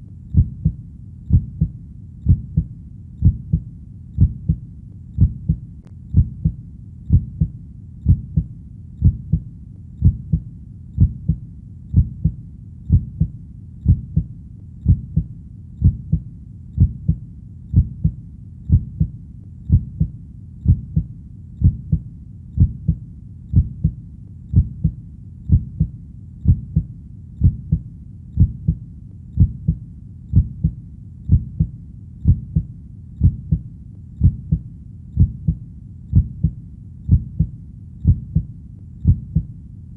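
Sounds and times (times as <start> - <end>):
heartbeat thumps: 0.0 - 39.5.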